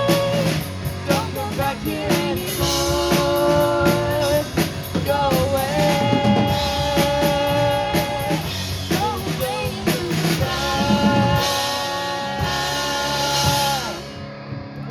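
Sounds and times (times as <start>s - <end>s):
person singing: 0.0s - 14.2s
rock band playing: 0.0s - 14.9s.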